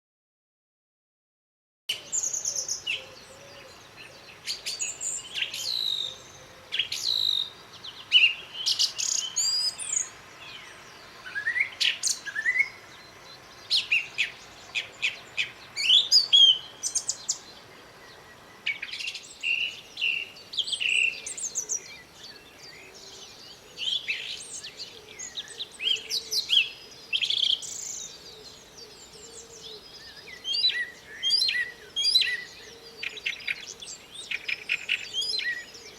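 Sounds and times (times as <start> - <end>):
blackbird singing: 1.9 - 35.9
songbirds chirping: 1.9 - 35.9.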